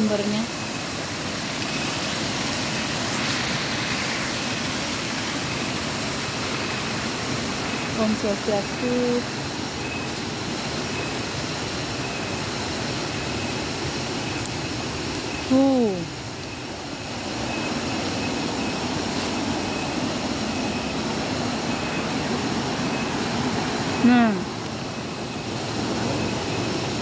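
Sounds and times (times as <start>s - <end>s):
stream water rushing: 0.0s - 15.5s, 16.1s - 27.0s.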